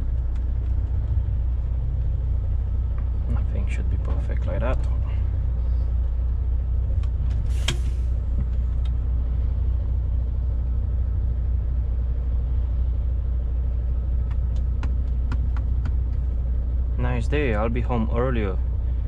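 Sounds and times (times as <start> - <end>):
lorry engine and road drone: 0.0 - 19.0.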